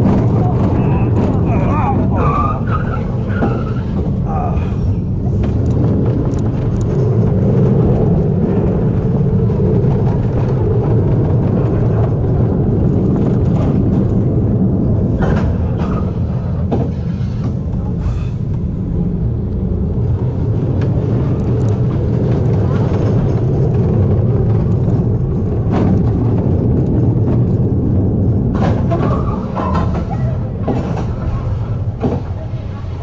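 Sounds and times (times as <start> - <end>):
coaster car knocking and rattling: 0.0 - 33.0
roller coaster wheels rumbling: 0.0 - 33.0.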